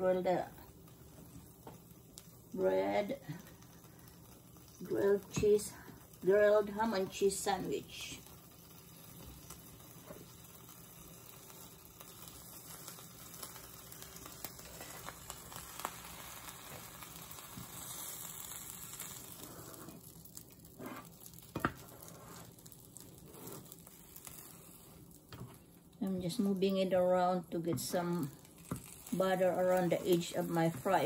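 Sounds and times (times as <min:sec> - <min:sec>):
butter sizzling in a pan: 0:00.0 - 0:31.0.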